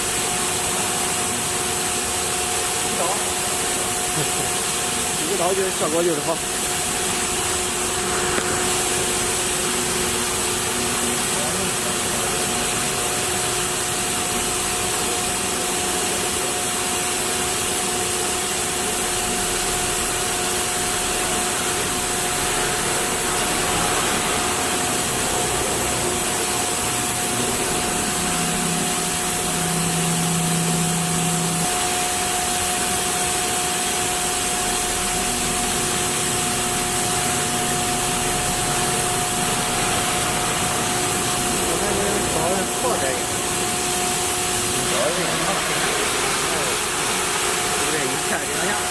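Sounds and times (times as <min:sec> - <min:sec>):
cnc router machinery running: 0:00.0 - 0:48.9.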